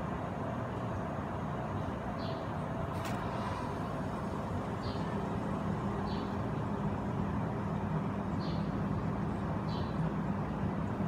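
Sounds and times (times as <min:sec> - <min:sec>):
air conditioner unit humming: 0:00.0 - 0:11.0
condenser fan rushing air: 0:00.0 - 0:11.0.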